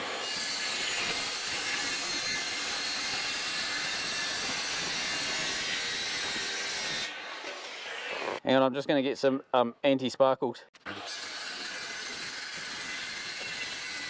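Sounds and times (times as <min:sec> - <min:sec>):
circular saw cutting metal: 0:00.0 - 0:08.4, 0:10.8 - 0:14.0.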